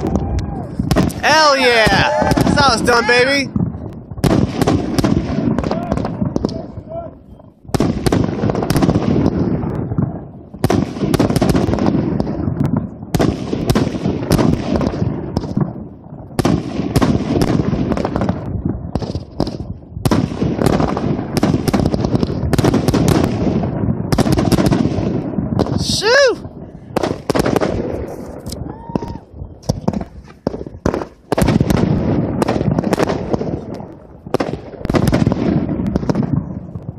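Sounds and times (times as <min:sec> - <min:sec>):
fireworks bangs and pops: 0:00.0 - 0:36.9.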